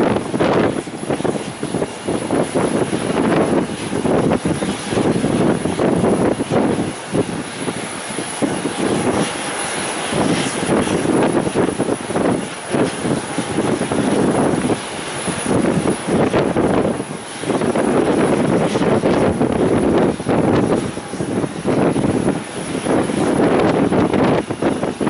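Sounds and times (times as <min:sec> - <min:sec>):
airplane engine noise: 0:00.0 - 0:25.0
wind gusting on microphone: 0:00.0 - 0:25.0.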